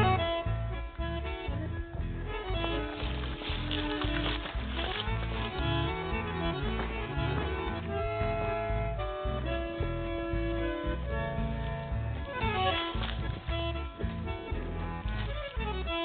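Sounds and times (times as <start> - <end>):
instrumental music with bass beat: 0.0 - 16.0.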